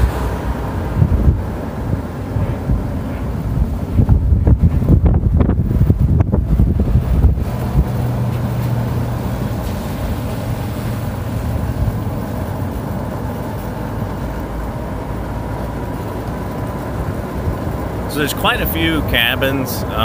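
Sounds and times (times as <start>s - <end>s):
golf cart rumble: 0.0s - 20.0s.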